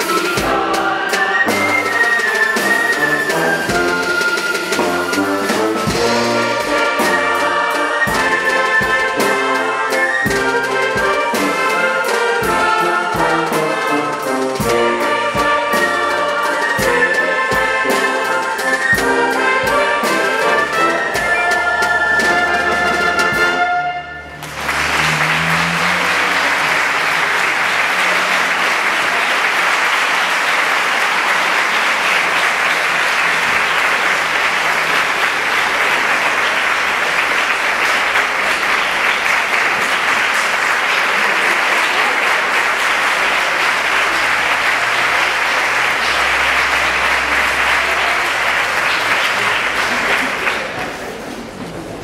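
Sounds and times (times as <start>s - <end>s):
audience applause: 0.0s - 18.9s, 24.3s - 52.0s.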